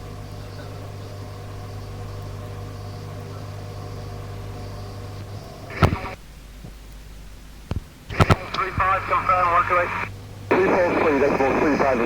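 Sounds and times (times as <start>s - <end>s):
radio click and crackle: 0.0s - 12.0s
radio hum with tones: 0.0s - 12.0s.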